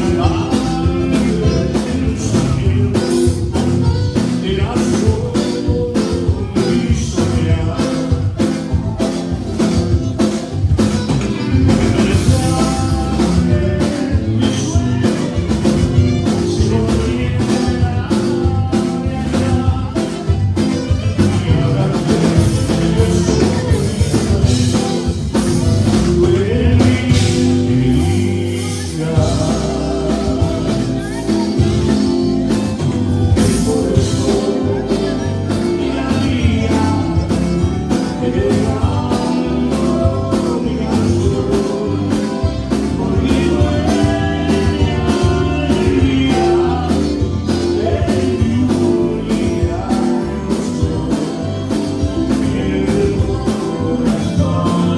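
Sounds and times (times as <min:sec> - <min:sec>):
bass guitar: 0:00.0 - 0:54.9
button accordion: 0:00.0 - 0:54.9
drum kit: 0:00.0 - 0:54.9
electric guitars: 0:00.0 - 0:54.9
man singing: 0:00.0 - 0:54.9.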